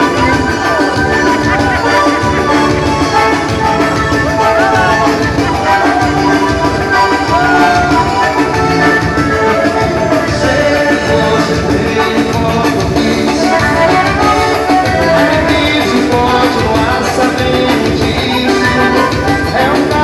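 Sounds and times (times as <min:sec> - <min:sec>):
loud live band music: 0:00.0 - 0:20.0.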